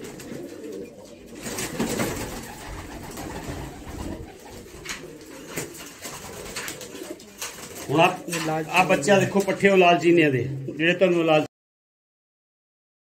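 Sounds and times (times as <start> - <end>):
pigeons cooing: 0.0 - 10.8.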